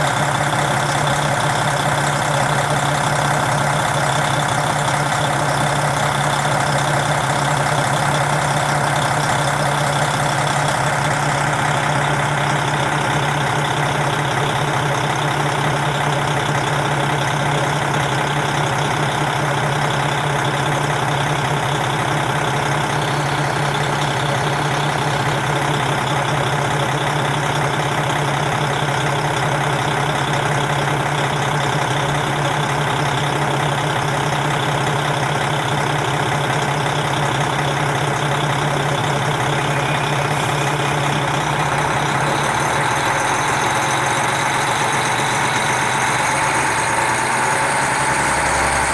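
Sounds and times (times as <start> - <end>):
diesel railcar engine idling: 0.0 - 48.9.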